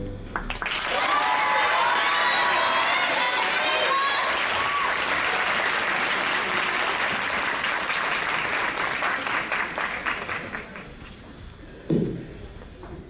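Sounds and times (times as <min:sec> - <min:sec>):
audience applauding: 0:00.3 - 0:11.1.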